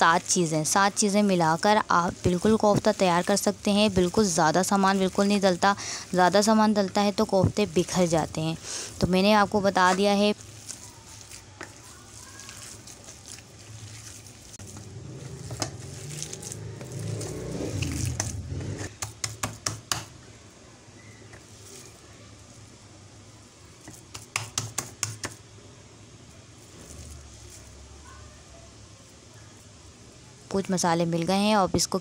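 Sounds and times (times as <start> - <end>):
soft squishing of meat: 0.1 - 18.9, 20.4 - 24.3, 26.2 - 30.0.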